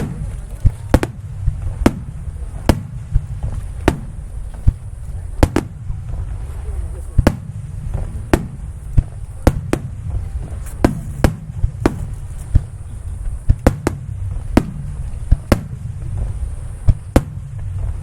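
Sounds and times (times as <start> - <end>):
continuous low rumble: 0.0 - 18.0
fireworks bangs: 0.0 - 18.0.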